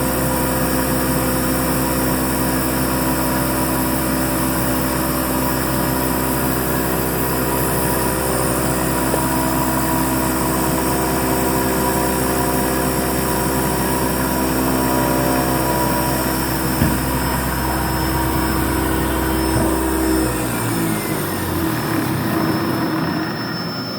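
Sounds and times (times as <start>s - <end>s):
milling machine hum: 0.0s - 23.9s.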